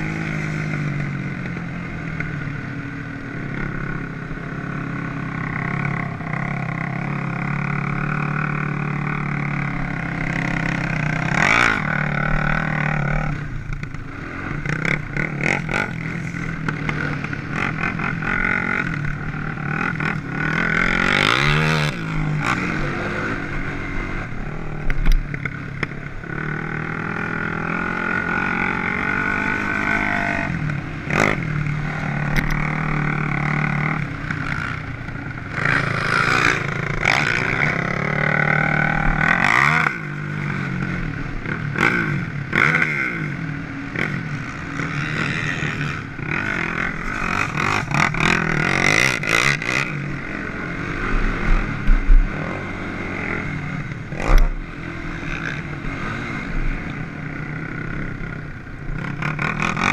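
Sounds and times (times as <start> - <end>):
off-road vehicle engine revving: 3.4 - 59.9.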